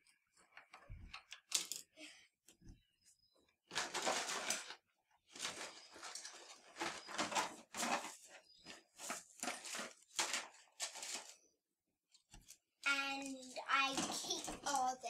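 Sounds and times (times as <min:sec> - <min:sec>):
plastic wings rustling and clattering: 0:00.0 - 0:02.1, 0:03.6 - 0:11.6, 0:12.2 - 0:15.0.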